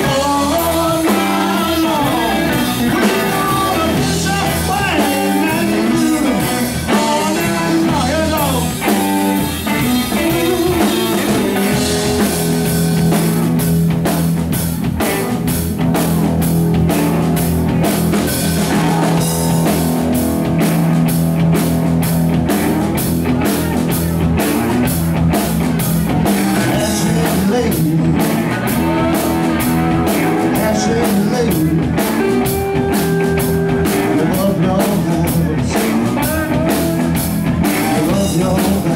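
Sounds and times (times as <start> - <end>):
drum kit beat: 0.0 - 38.9
electric guitars: 0.0 - 38.9.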